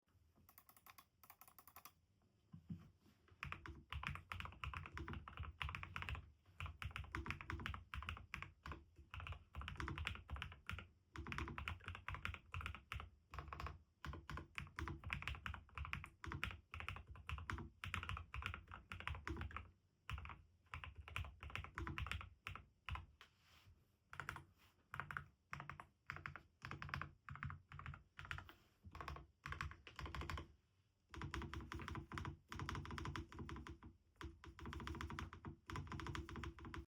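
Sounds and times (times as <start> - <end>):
typing on mechanical keyboard: 0.5 - 2.0, 3.4 - 23.1, 24.2 - 30.5, 31.1 - 36.9.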